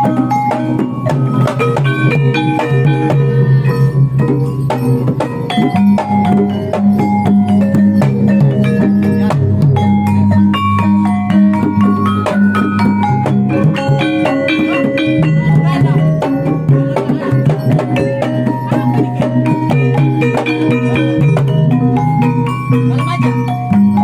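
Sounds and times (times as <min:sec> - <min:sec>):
drum strokes: 0:00.0 - 0:24.0
metallophones playing bright notes: 0:00.0 - 0:24.0.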